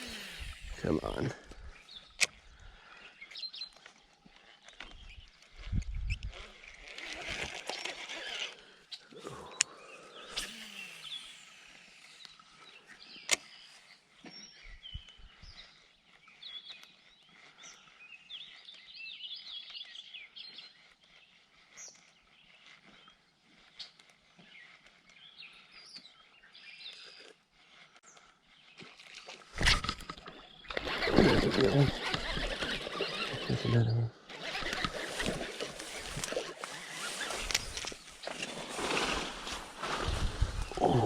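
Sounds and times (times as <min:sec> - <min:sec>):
birds chirping and singing: 0:00.0 - 0:41.0
faint outdoor background: 0:00.0 - 0:41.0.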